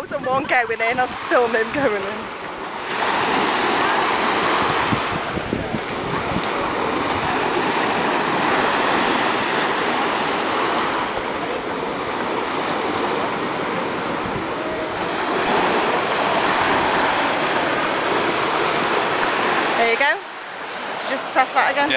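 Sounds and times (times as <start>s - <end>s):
waves breaking on beach: 0.0s - 21.9s.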